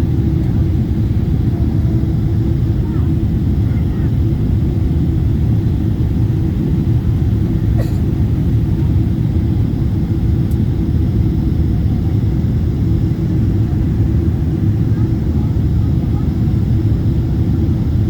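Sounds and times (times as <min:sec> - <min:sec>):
jet cabin engine rumble: 0:00.0 - 0:18.0.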